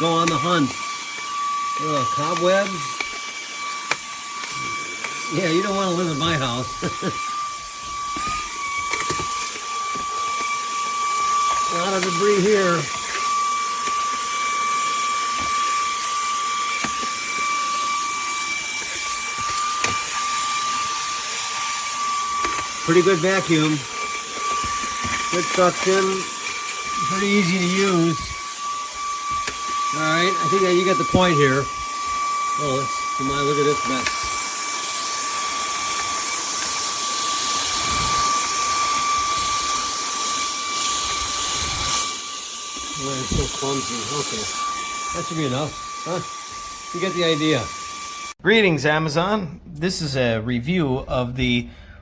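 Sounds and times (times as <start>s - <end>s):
handheld vacuum whining: 0.0s - 48.4s.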